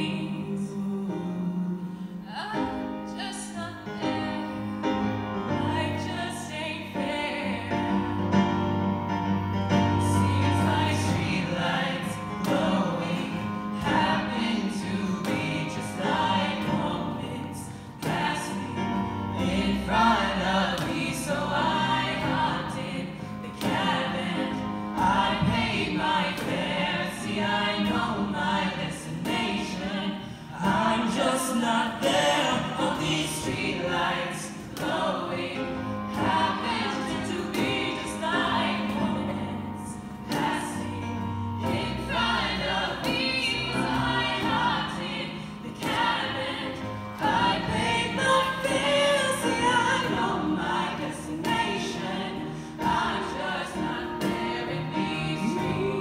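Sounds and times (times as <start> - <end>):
group singing in harmony: 0.0 - 56.0
keyboard accompaniment: 0.0 - 56.0.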